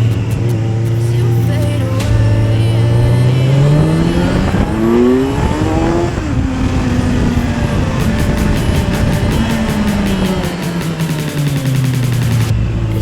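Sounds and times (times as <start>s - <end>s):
motorcycle engine accelerating: 2.0s - 13.0s.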